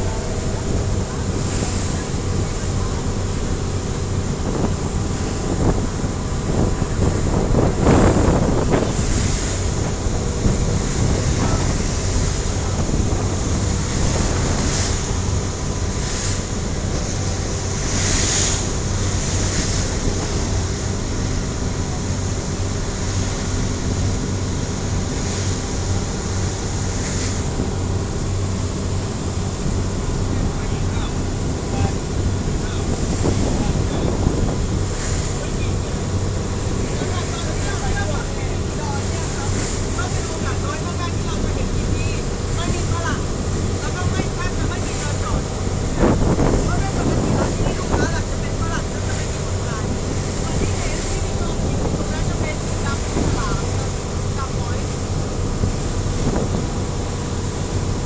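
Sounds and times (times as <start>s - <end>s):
boat engine running: 0.0s - 58.0s
waves splashing against boat: 0.0s - 58.0s
wind noise on microphone: 0.0s - 58.0s.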